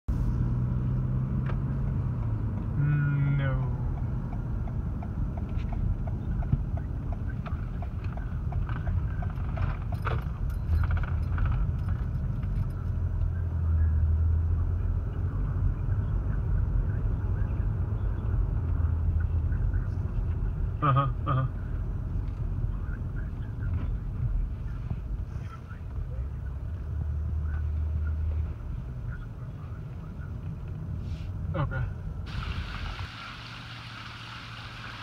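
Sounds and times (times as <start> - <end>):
road and engine rumble: 0.0 - 35.0.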